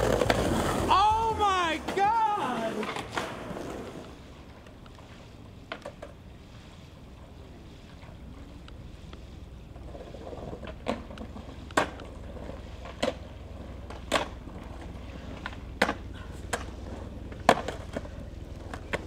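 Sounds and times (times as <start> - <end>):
skateboard clacks: 0.0 - 6.2, 9.8 - 19.0.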